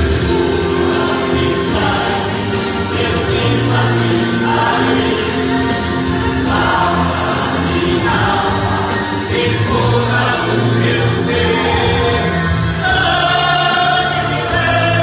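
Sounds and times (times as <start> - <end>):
choir singing gospel song: 0.0 - 15.0
instrumental accompaniment: 0.0 - 15.0.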